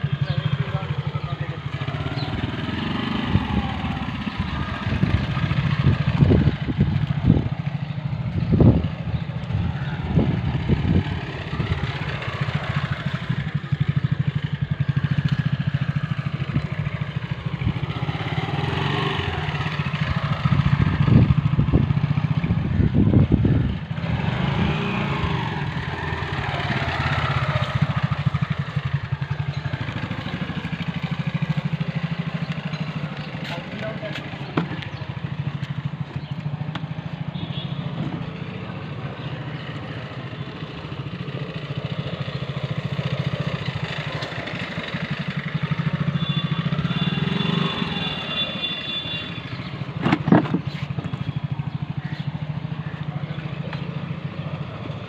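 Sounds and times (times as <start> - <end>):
small motorcycle engine revving: 0.0 - 55.0.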